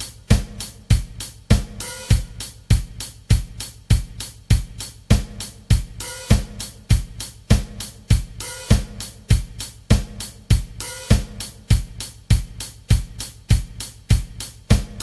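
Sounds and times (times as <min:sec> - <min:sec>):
bass drum: 0:00.0 - 0:15.0
closed hi-hat: 0:00.0 - 0:15.0
open hi-hat ringing: 0:00.0 - 0:15.0
snare drum: 0:00.0 - 0:15.0.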